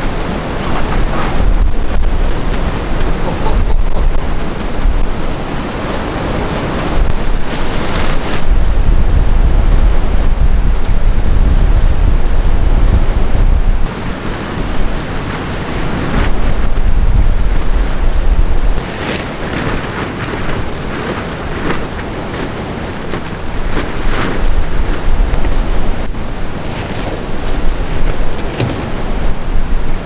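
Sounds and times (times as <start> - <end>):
storm wind buffeting microphone: 0.0 - 30.0.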